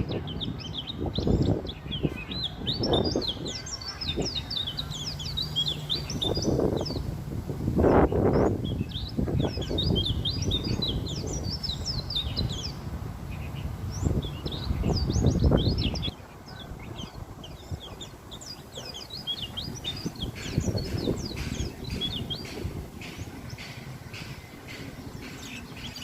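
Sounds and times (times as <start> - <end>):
bird giving high chirps: 0.0 - 7.1, 7.8 - 26.0.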